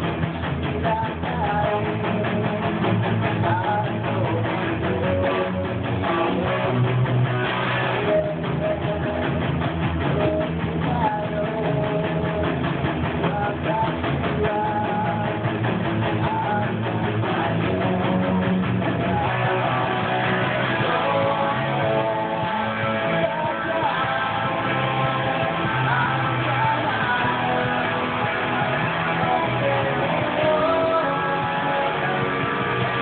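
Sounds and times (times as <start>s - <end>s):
electric guitar rock riffs: 0.0s - 33.0s
rock band: 0.0s - 33.0s.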